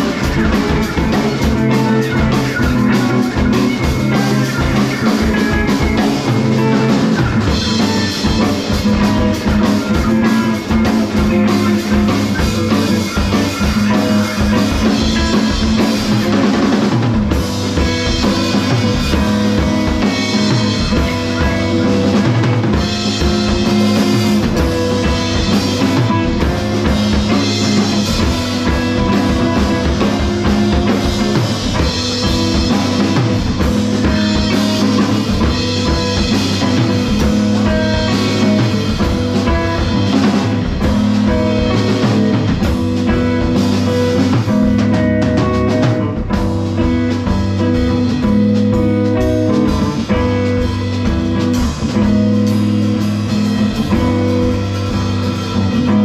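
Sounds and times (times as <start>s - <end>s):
drum kit playing busy beat: 0.0s - 56.0s
guitar: 0.0s - 56.0s.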